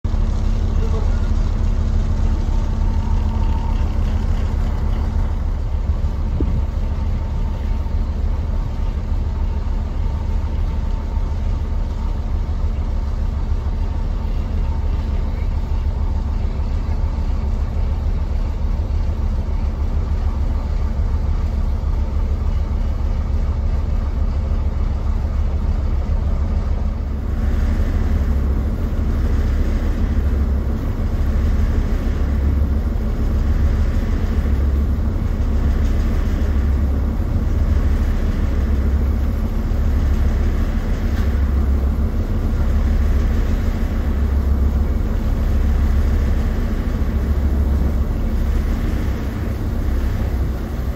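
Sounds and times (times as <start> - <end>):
ferry engine drone: 0.0 - 50.9.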